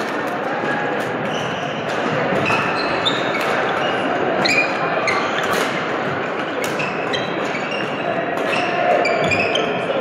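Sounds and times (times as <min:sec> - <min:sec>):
shoes squeaking on court floor: 0:01.2 - 0:10.0.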